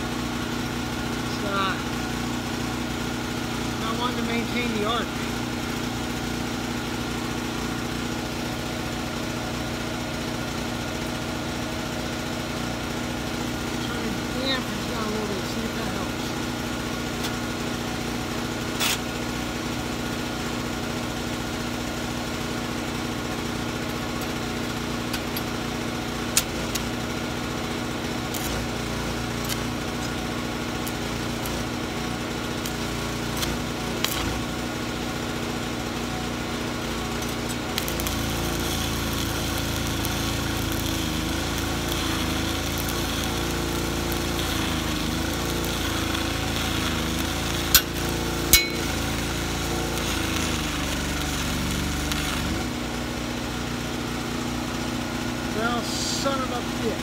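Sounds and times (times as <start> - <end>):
small engine running: 0.0 - 57.0
welding arc crackling and hissing: 0.0 - 57.0.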